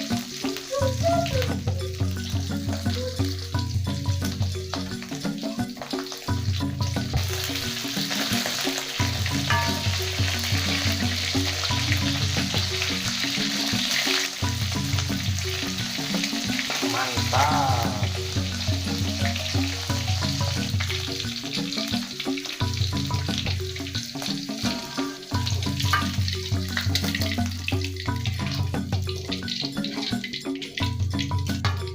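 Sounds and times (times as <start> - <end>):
background music with bass line: 0.0 - 31.9
oil sizzling: 0.0 - 31.9.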